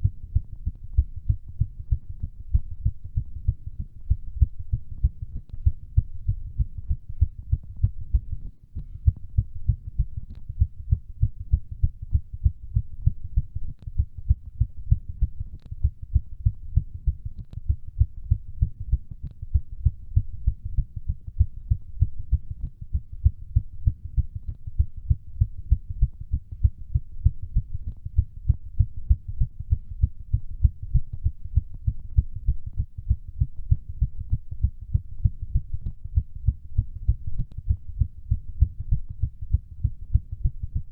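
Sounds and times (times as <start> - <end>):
heart beating fast: 0.0 - 40.9.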